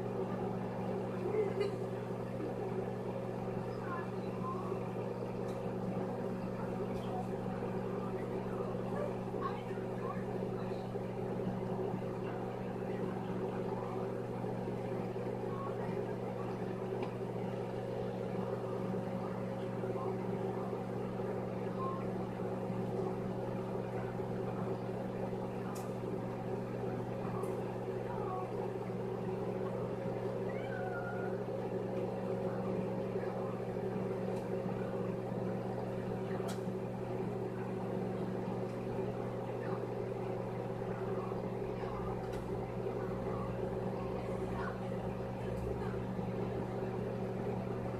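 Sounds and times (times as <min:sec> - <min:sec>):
microwave oven humming: 0:00.0 - 0:47.9.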